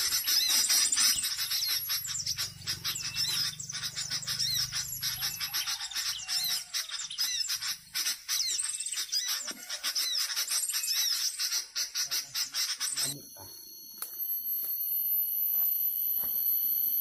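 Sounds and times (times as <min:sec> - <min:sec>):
small birds twittering: 0:00.0 - 0:14.3.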